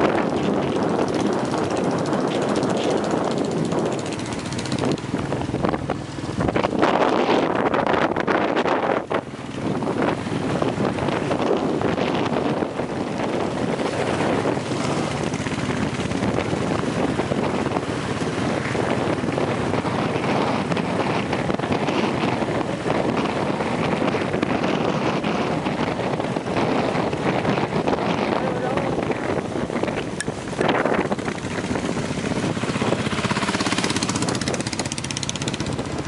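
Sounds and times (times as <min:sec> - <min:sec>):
motorcycle engine: 0:00.0 - 0:36.0
road noise: 0:00.0 - 0:36.0
wind buffeting microphone: 0:00.0 - 0:36.0.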